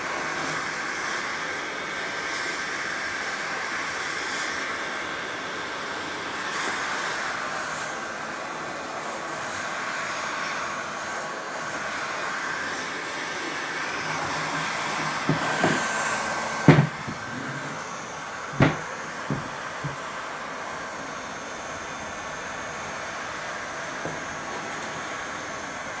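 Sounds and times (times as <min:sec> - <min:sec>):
heat gun blowing with fan whine: 0:00.0 - 0:26.0.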